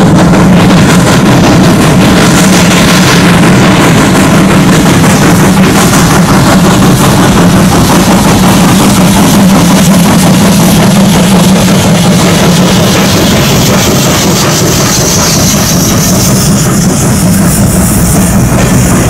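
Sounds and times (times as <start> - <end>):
steam locomotive rumbling: 0.0 - 19.0.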